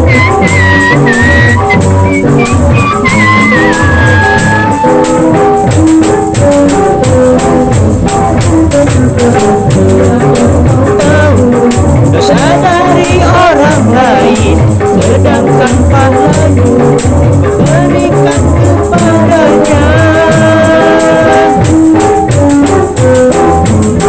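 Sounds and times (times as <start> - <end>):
high held melody: 0.0 - 24.0
steady beat: 0.0 - 24.0
tambourine jingling: 0.0 - 24.0.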